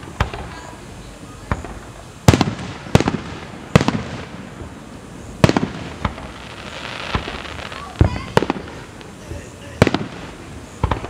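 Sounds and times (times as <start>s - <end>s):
firework shells bursting: 1.5s - 11.0s.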